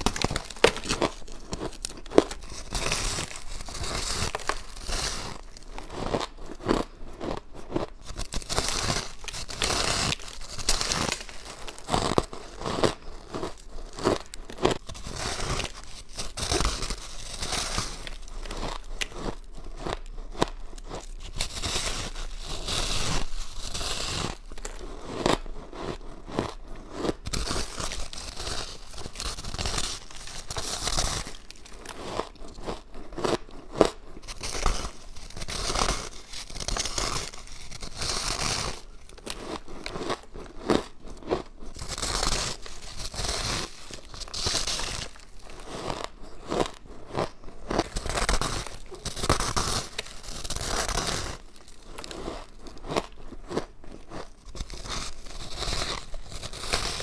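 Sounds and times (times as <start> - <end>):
crunching crushed ice: 0.0 - 57.0.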